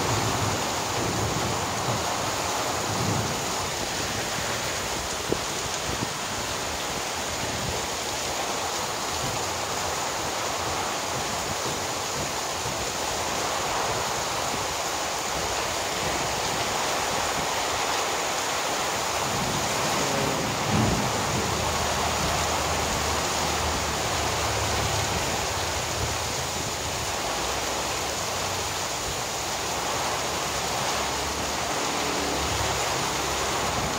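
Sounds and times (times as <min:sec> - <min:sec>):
heavy rain pouring: 0:00.0 - 0:33.9
water running off roof: 0:00.0 - 0:33.9.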